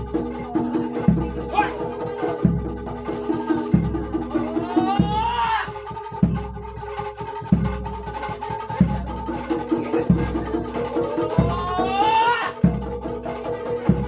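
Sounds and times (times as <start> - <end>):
bass drum beats: 0.0 - 14.0
light busy drumming: 0.0 - 14.0.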